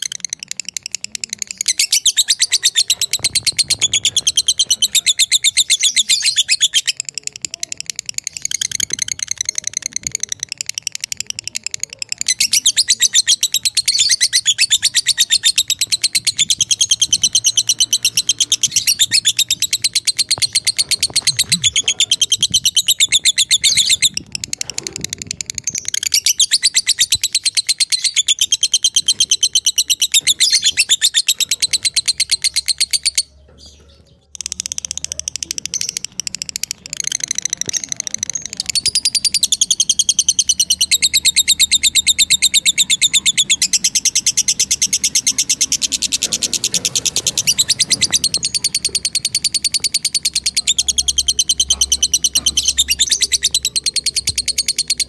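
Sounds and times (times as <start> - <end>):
lovebird chattering trills: 0.0 - 55.0.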